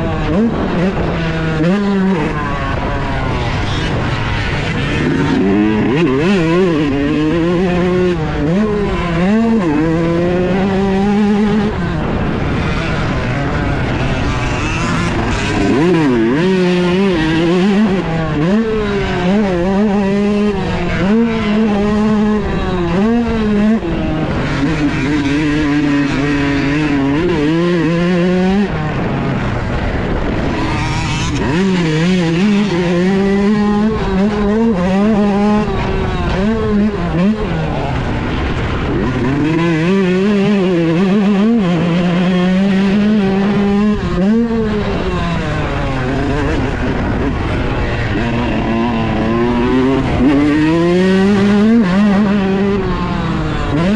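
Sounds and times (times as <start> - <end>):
two-stroke dirt bike engine revving: 0.0 - 53.9.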